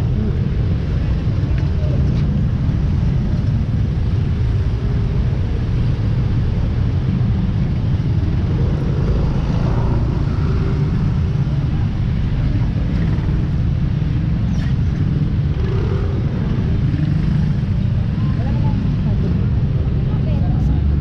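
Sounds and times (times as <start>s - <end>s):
faint engine hums: 0.0s - 21.0s
road traffic rumble: 0.0s - 21.0s.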